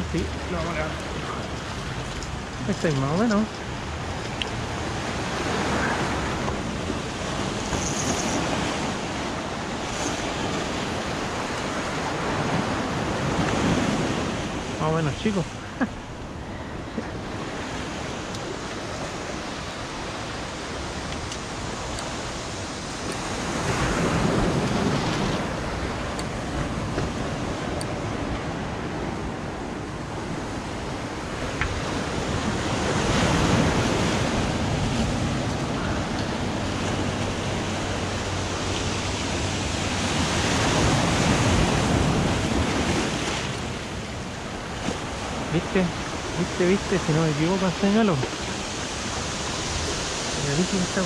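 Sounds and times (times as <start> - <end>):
ocean surf breaking: 0.0 - 51.0.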